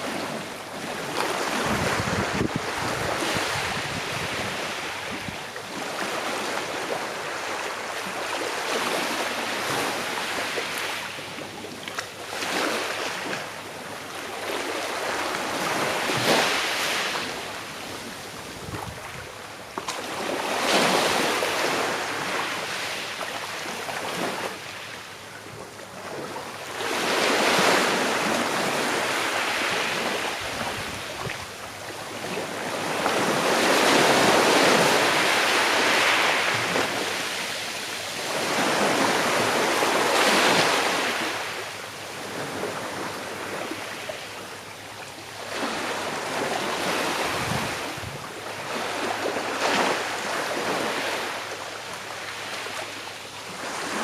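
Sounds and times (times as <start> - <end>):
small sea waves breaking on shore: 0.0 - 54.0.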